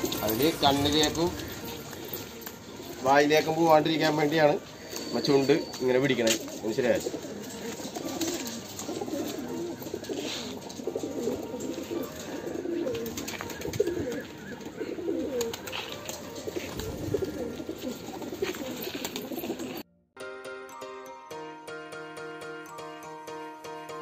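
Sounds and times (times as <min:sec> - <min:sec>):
pigeons cooing: 0:00.0 - 0:19.8.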